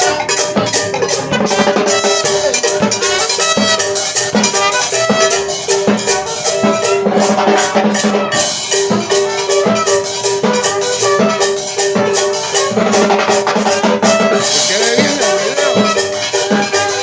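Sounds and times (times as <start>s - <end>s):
drums and shakers: 0.0s - 17.0s
latin dance band playing: 0.0s - 17.0s.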